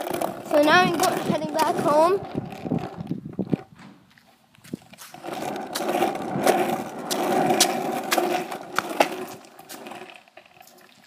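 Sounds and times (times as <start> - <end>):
skateboard wheels rolling on pavement: 0.0 - 11.0.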